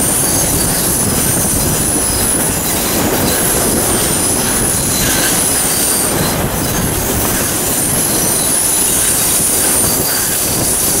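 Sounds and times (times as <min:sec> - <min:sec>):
high-pitched wheel squeal: 0:00.0 - 0:11.0
rumble of wheels on rail: 0:00.0 - 0:11.0.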